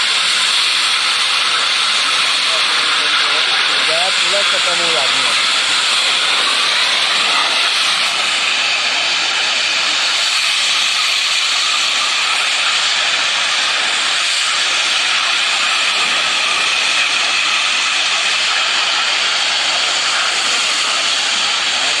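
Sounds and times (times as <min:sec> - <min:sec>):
gas escaping hiss: 0:00.0 - 0:22.0.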